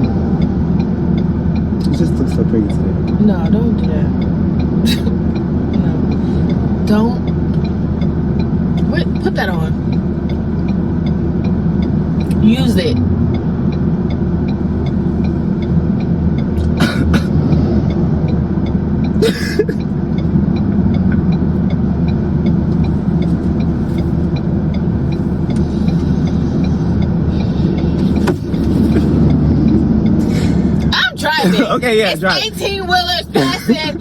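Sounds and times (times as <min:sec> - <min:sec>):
faint ticking: 0:00.0 - 0:28.6
car road noise inside cabin: 0:00.0 - 0:34.0.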